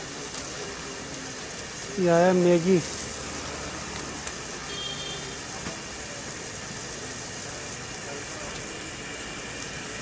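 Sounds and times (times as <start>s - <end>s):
broth simmering: 0.0s - 10.0s
gas burner roaring: 0.0s - 10.0s.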